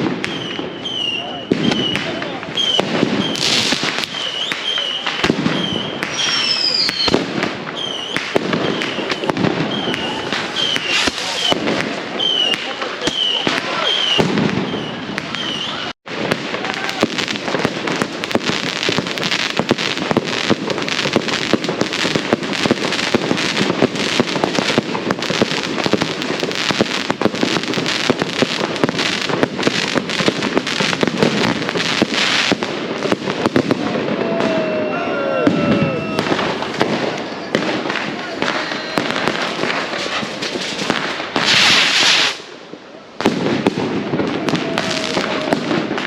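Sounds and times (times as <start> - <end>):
firecrackers banging: 0.0 - 46.0.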